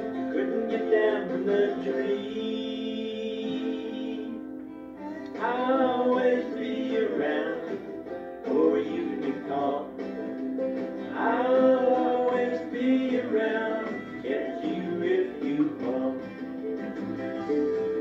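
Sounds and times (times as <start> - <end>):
strummed acoustic guitar: 0.0 - 18.0
man singing: 0.1 - 4.5, 5.2 - 10.1, 11.1 - 16.4.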